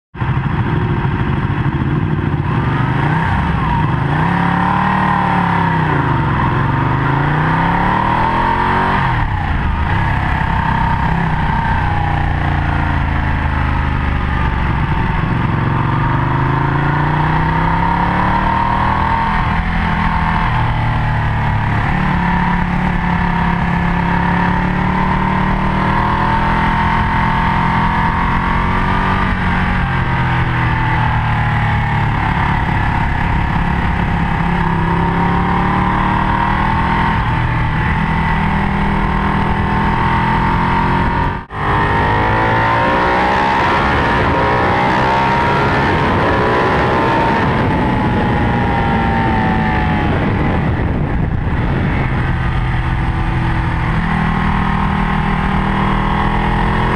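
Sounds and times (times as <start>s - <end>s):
motorcycle engine revving: 0.2s - 56.9s.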